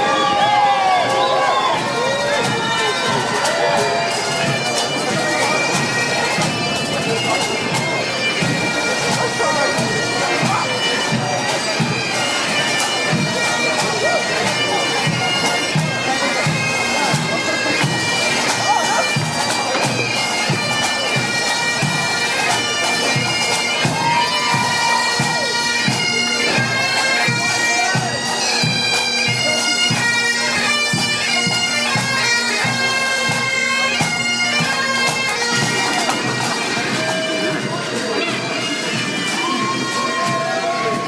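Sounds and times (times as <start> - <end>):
bagpipe melody over drone: 1.0 - 41.0.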